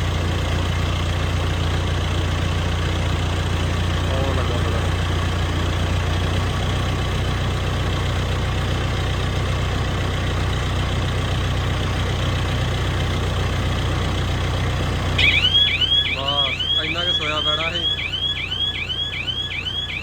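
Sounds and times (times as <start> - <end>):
machinery engine idling: 0.0 - 20.0.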